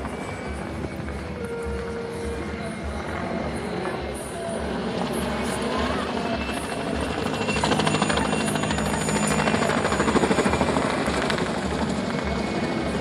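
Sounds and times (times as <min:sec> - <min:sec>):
high engine whine: 0:00.0 - 0:13.0
helicopter rotor chop: 0:02.4 - 0:13.0.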